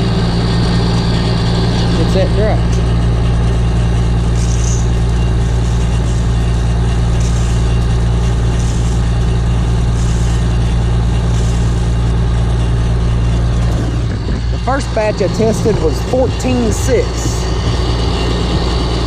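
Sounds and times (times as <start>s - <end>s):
combine harvester engine droning: 0.0s - 19.0s.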